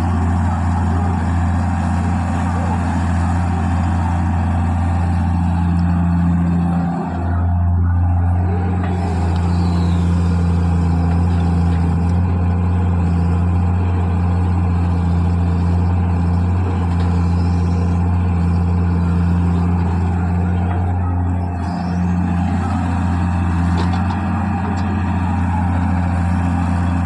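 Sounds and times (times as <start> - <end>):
heavy diesel engine droning: 0.0 - 27.0.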